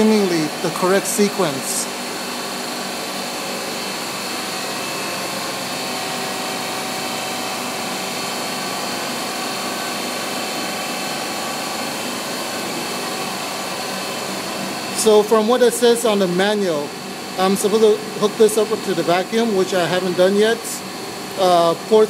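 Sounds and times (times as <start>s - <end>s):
high machine whine: 0.0s - 22.0s
machine hiss and hum: 0.0s - 22.0s.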